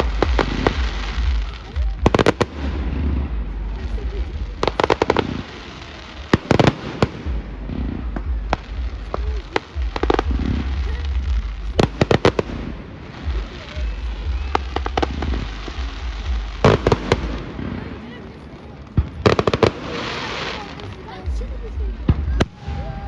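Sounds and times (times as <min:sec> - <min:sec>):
fireworks crackling bangs: 0:00.0 - 0:23.0
low rumble: 0:00.0 - 0:23.0
single firework reports: 0:00.0 - 0:23.0.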